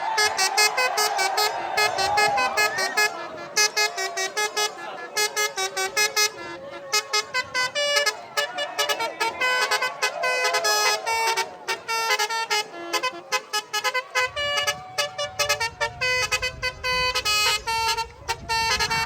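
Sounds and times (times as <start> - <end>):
bus air horns playing notes: 0.0 - 19.0
gliding horn tones: 0.0 - 19.0.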